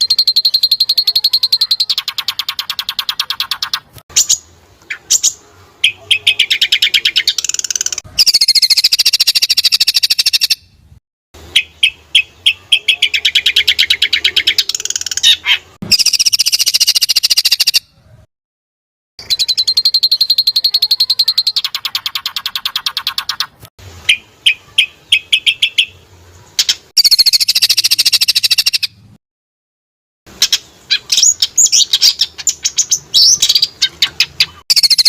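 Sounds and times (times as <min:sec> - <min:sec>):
songbird trilling: 0:00.0 - 0:10.7, 0:11.5 - 0:17.9, 0:19.2 - 0:26.0, 0:26.6 - 0:29.0, 0:30.3 - 0:35.0.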